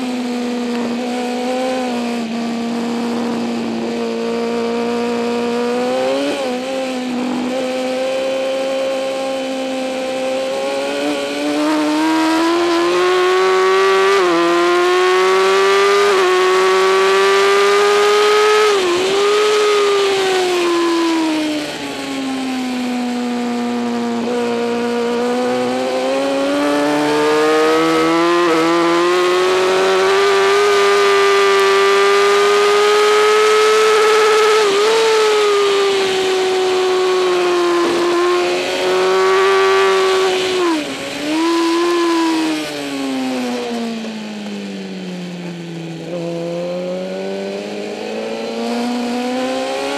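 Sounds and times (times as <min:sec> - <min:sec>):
motorcycle engine racing: 0:00.0 - 0:49.9.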